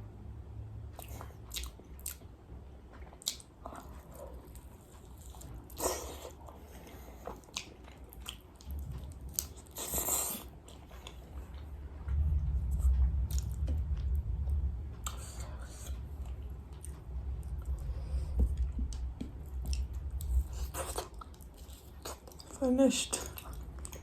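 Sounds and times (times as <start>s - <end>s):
chewing crunchy fried chicken: 0.9s - 11.7s, 15.0s - 24.0s.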